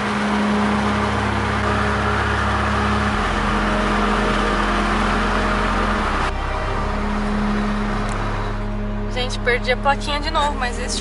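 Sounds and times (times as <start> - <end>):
car engine hum: 0.0 - 11.0
tyre and road noise: 0.0 - 11.0.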